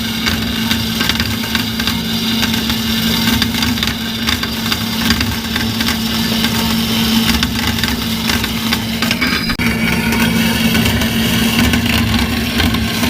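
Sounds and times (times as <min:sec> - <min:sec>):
bandsaw cutting steel: 0:00.0 - 0:13.0.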